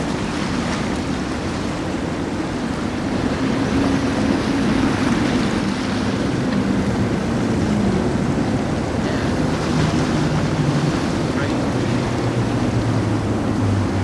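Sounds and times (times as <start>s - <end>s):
boat engine droning: 0.0s - 14.0s
waves washing: 0.0s - 14.0s.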